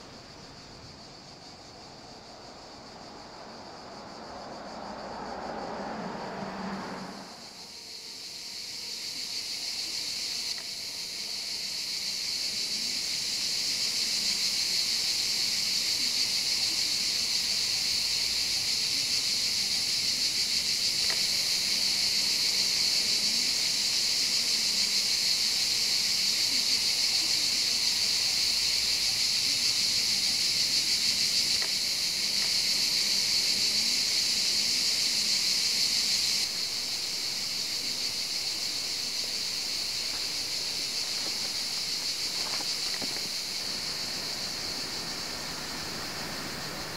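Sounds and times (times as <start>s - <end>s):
cicadas droning: 0.0s - 46.9s.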